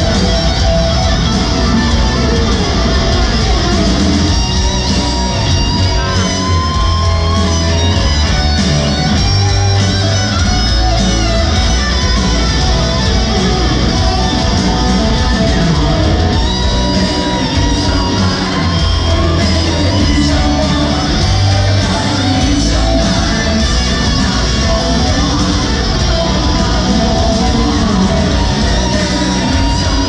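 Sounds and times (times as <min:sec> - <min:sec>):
lead electric guitar bending notes: 0:00.0 - 0:30.0
rock band playing slow ballad: 0:00.0 - 0:30.0.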